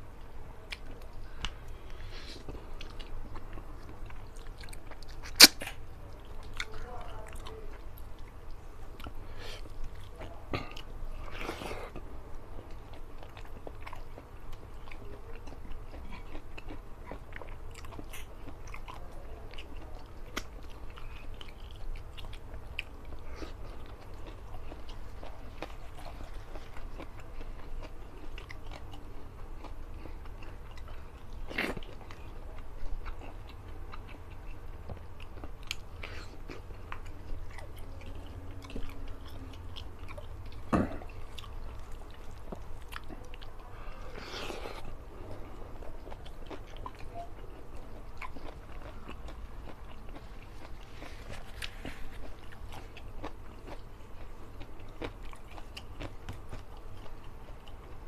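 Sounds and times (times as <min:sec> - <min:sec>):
steady low hum: 0:00.0 - 0:58.0
man chewing: 0:00.1 - 0:58.0.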